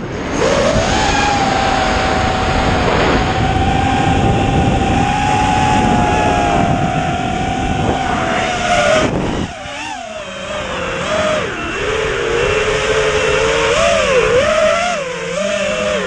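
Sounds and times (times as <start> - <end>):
wind rushing: 0.0 - 14.4
drone motors whining: 0.0 - 16.0.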